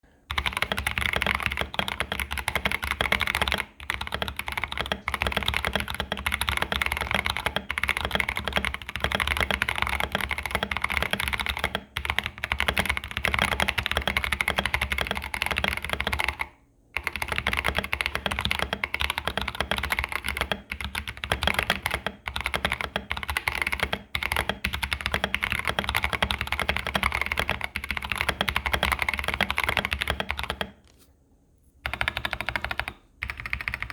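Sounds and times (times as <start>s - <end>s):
fast mechanical keyboard typing: 0.3s - 30.8s, 31.8s - 33.9s.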